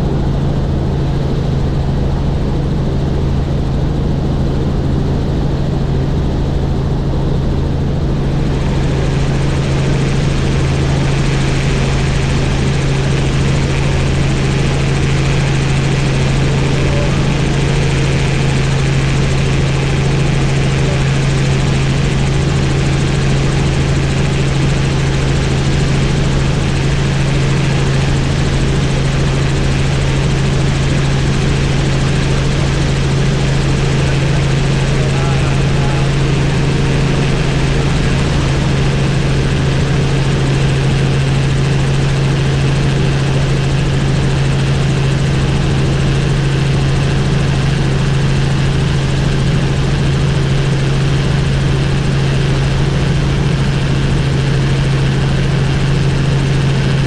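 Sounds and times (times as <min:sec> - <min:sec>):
helicopter rotor drone: 0:00.0 - 0:57.0.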